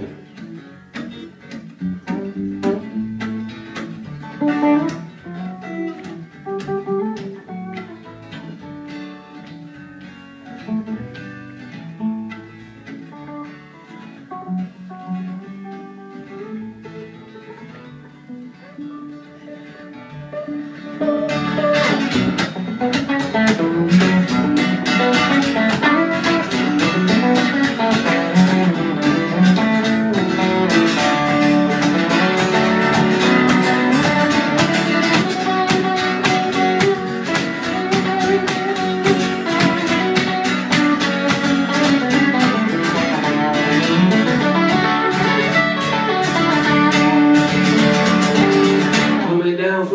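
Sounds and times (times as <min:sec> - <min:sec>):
two guitars playing: 0:00.0 - 0:49.9.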